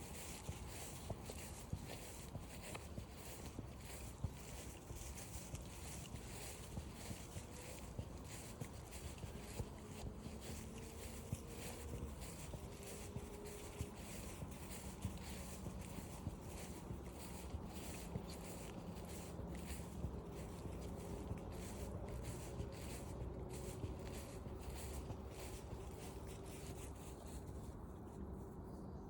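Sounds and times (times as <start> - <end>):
footsteps on forest trail: 0.0 - 27.9.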